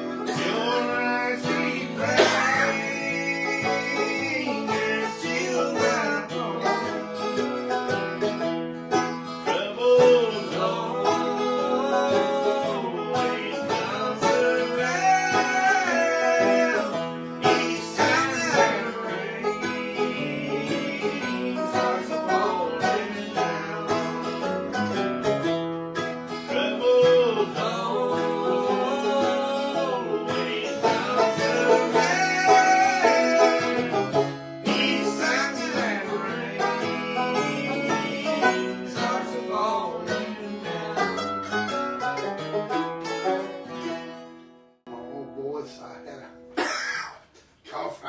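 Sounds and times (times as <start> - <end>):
banjo rolling: 0.0 - 46.6
strummed acoustic guitar: 0.0 - 47.1.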